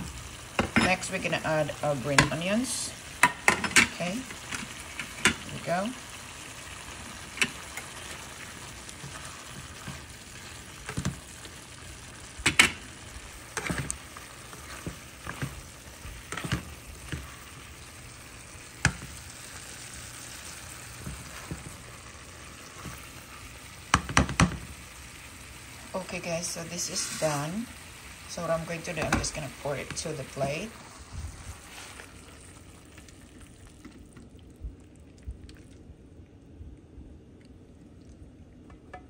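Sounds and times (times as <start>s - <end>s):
food sizzling in a pan: 0.0s - 34.2s.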